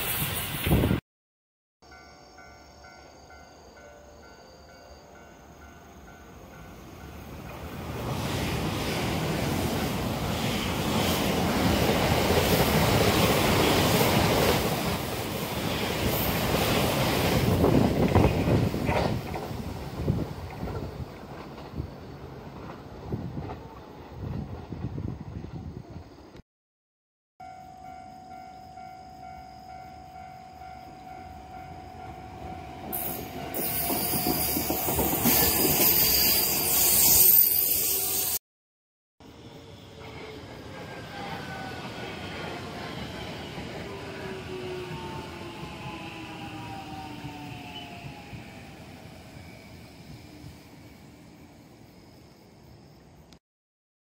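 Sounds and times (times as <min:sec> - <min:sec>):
electric train passing at speed: 0:00.0 - 0:01.0, 0:01.9 - 0:26.4, 0:27.4 - 0:38.4, 0:39.2 - 0:53.4
wheels rushing on rail: 0:06.1 - 0:26.2, 0:27.9 - 0:38.4, 0:39.2 - 0:52.5.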